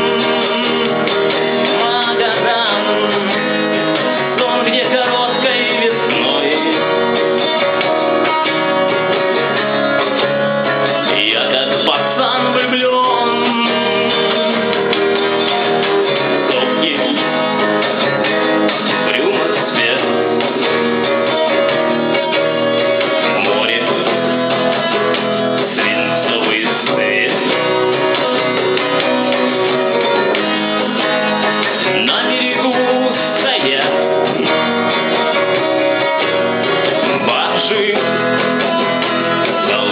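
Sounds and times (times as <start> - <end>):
guitar-led music: 0.0 - 39.9.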